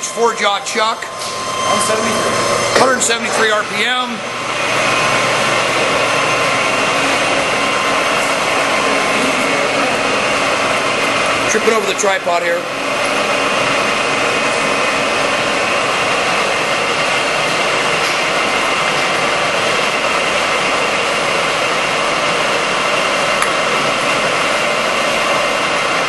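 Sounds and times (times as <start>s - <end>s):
lathe running: 0.0s - 26.0s.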